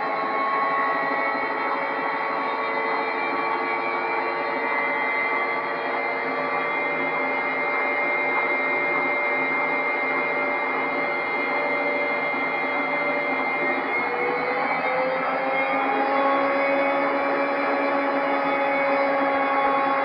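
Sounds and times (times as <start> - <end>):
washing machine spin cycle whine: 0.0 - 20.0.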